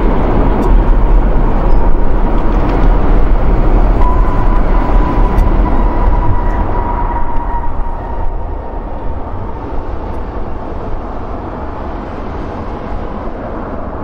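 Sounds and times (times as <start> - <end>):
high jet whine: 0.0 - 14.0
jet engine rush: 0.0 - 14.0.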